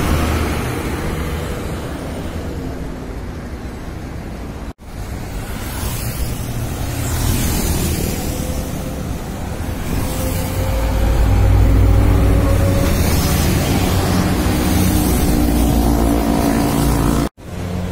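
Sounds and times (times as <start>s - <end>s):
highway traffic noise: 0.0s - 17.9s.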